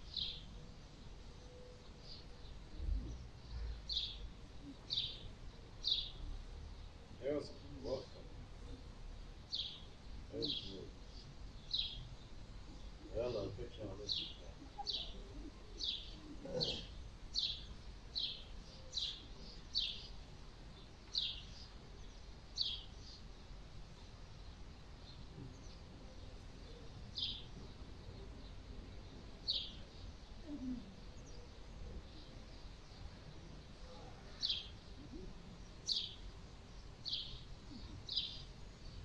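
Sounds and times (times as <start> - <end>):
small bird chirping: 0.0 - 39.0.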